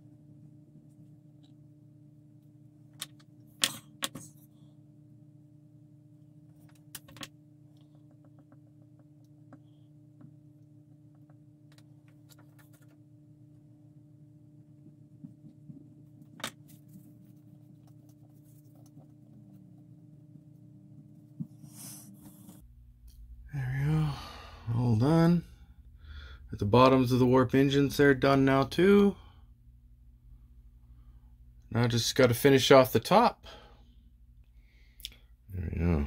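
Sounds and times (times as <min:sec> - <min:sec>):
low hum: 0:00.0 - 0:32.6.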